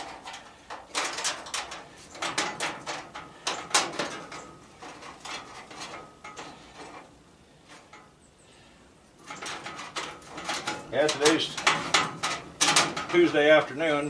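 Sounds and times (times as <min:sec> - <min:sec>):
metal parts clanking and rattling: 0:00.0 - 0:08.2, 0:09.2 - 0:14.0.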